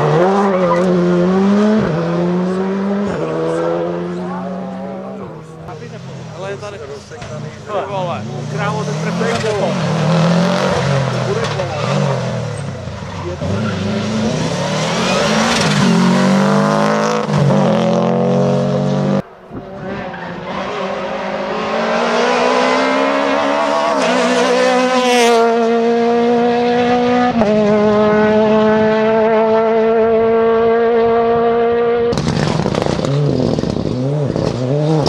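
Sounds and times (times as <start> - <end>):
rally car accelerating away: 0.0 - 35.0
rally car engine accelerating: 0.0 - 35.0.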